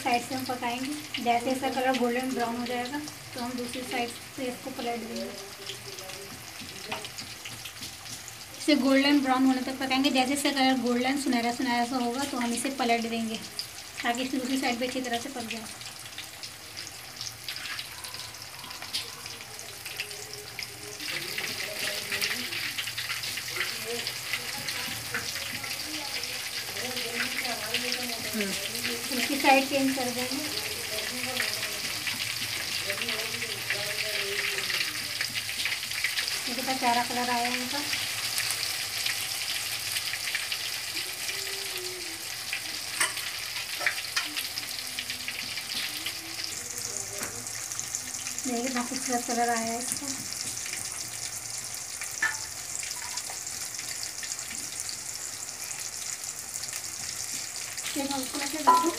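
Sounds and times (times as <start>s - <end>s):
fish sizzling in oil: 0.0s - 58.9s.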